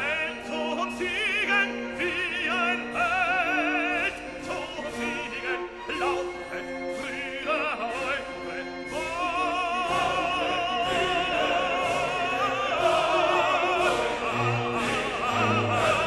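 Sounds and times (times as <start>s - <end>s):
operatic singing: 0.0s - 16.0s
orchestra playing: 0.0s - 16.0s.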